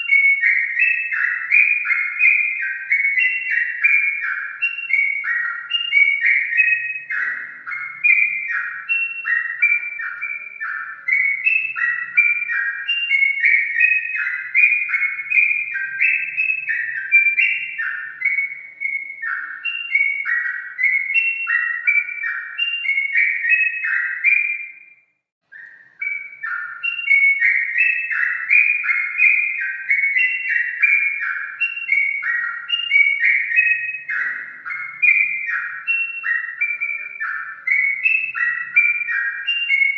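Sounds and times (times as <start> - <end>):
bird song bubbling whistles: 0.0 - 39.9.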